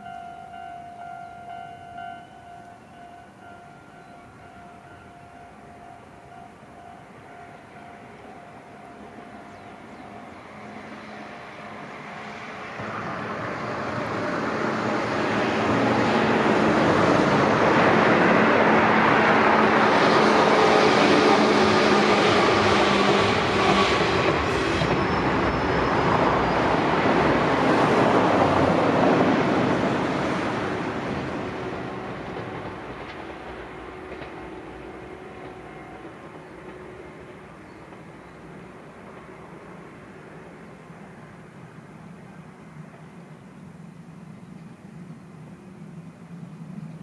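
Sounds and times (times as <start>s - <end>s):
electric train running past: 0.0s - 47.0s.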